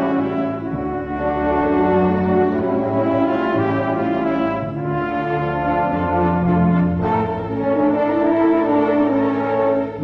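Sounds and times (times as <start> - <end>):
long held brass notes: 0.0 - 10.0
slow orchestral music: 0.0 - 10.0.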